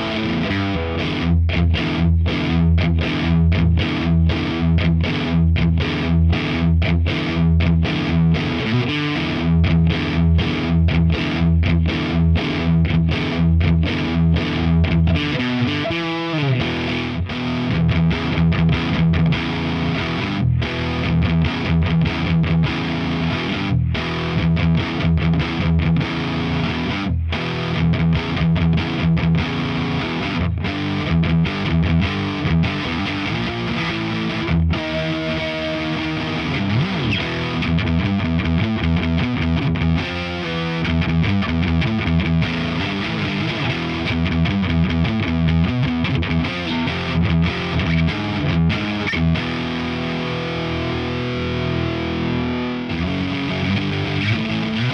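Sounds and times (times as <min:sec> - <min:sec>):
distorted electric guitar riffing: 0:00.0 - 0:54.9.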